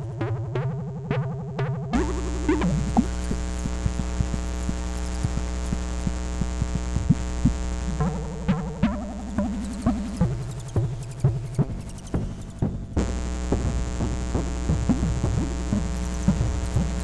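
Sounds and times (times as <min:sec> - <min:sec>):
pulsing synthesizer notes: 0:00.0 - 0:17.0
buzzing synthesizer drone: 0:01.8 - 0:17.0.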